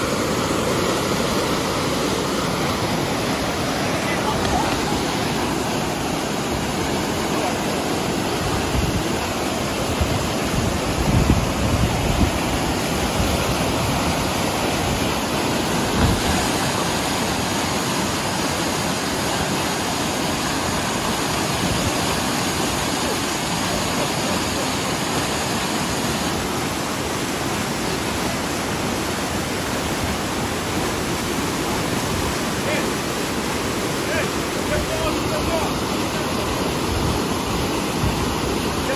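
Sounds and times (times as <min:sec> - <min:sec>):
rushing pumped water breaking: 0:00.0 - 0:38.9.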